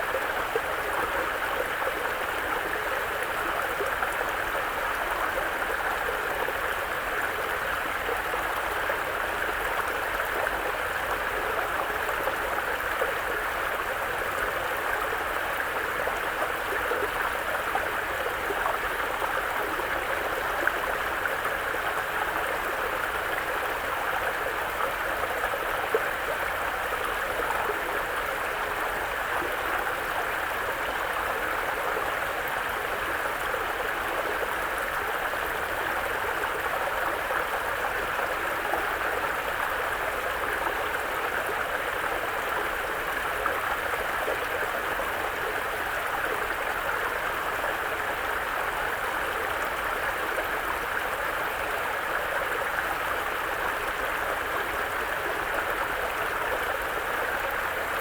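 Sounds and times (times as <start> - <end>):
brook flowing over rocks: 0.0 - 58.0.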